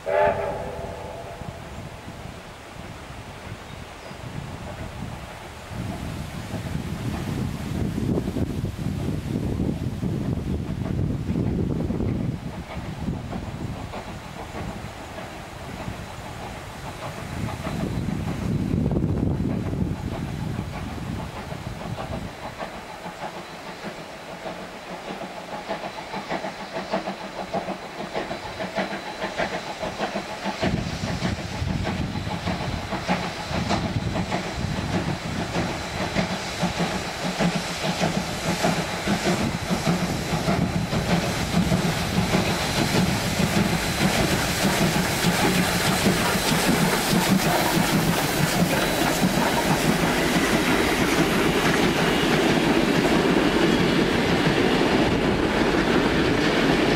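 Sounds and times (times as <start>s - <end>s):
steam locomotive exhaust beats: 0.0s - 56.9s
train wheels clattering over rails: 3.5s - 56.9s.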